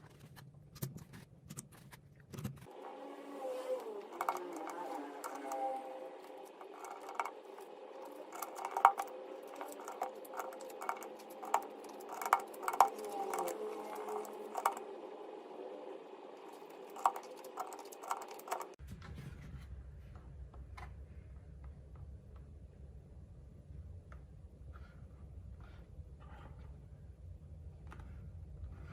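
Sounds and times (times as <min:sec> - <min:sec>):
low hum: 0:02.7 - 0:28.9.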